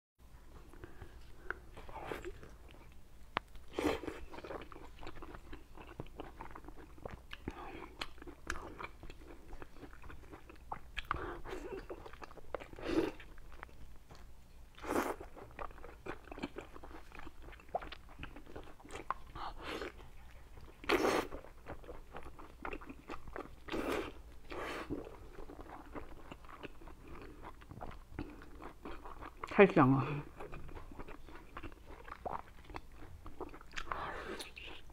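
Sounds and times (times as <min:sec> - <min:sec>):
person chewing with mouth clicks: 0:00.7 - 0:29.6, 0:30.3 - 0:34.9.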